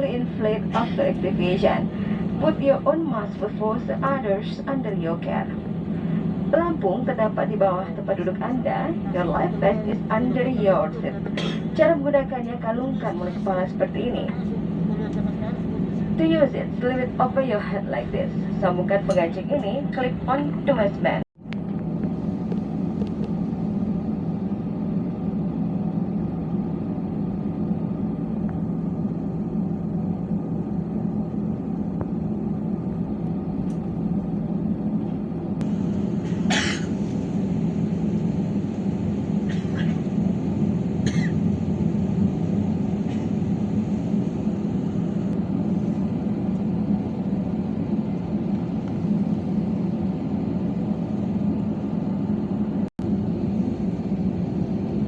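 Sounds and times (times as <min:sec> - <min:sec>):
aircraft cabin drone: 0:00.0 - 0:55.0.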